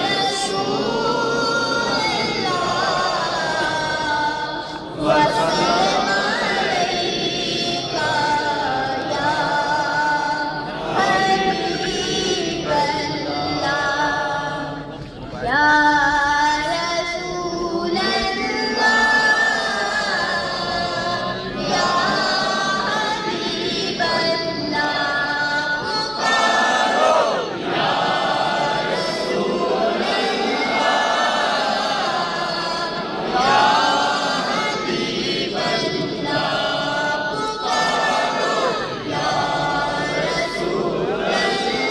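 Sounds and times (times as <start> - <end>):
person singing unaccompanied: 0.0 - 14.8, 15.4 - 41.9.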